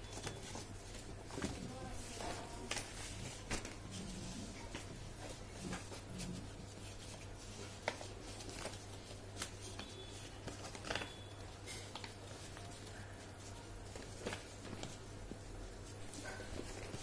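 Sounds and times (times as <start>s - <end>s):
paper rubbing and rustling: 0.1s - 17.0s.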